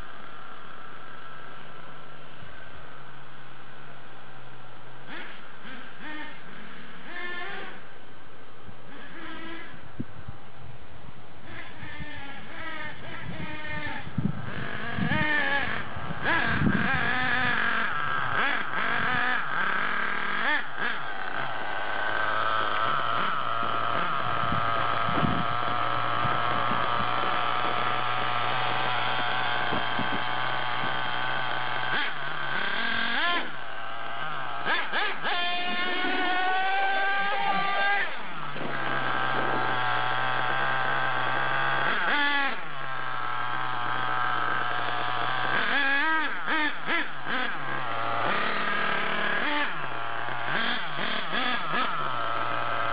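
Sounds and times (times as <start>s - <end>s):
small engine revving: 0.0s - 3.3s, 4.2s - 8.0s, 8.8s - 10.1s, 11.4s - 52.9s.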